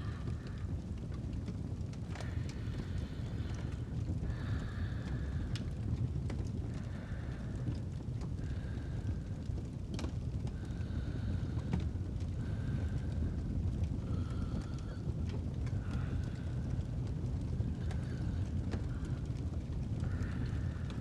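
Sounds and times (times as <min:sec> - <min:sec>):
fire crackling and popping: 0:00.0 - 0:21.0
fire rumbling: 0:00.0 - 0:21.0
soft slow breathing: 0:00.0 - 0:21.0.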